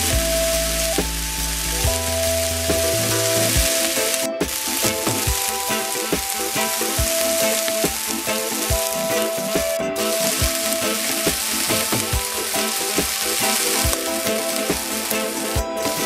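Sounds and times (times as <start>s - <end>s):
background music with steady beat: 0.0s - 16.0s
steak sizzling in a pan: 0.0s - 16.0s.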